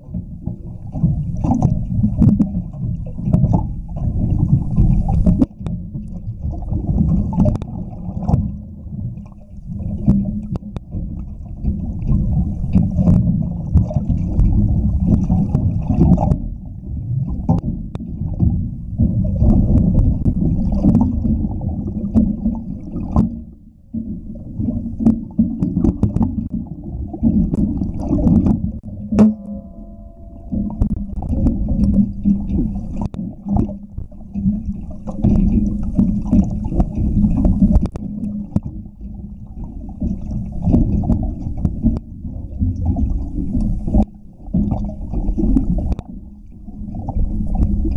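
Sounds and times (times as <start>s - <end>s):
underwater churning of seawater: 0.0s - 47.9s.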